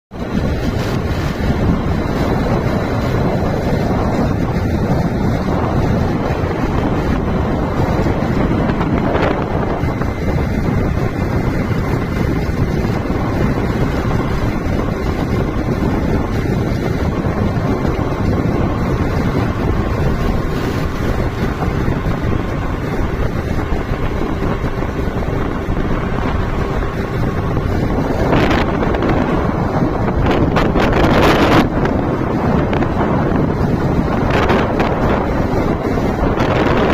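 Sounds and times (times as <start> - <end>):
steady low rumble: 0.1 - 36.9
wind buffeting microphone: 0.1 - 36.9.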